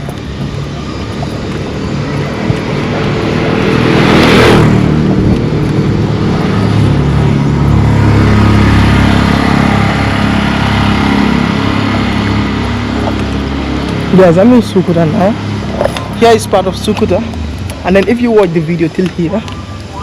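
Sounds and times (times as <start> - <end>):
vehicle passing close: 0.0 - 19.0
engine running steadily: 0.0 - 20.0.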